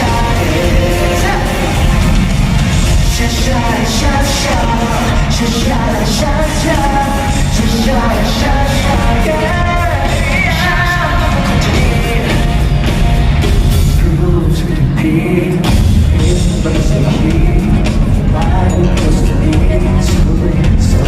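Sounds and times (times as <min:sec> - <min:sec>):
live pop-rock band playing: 0:00.0 - 0:21.0
person singing: 0:00.0 - 0:21.0.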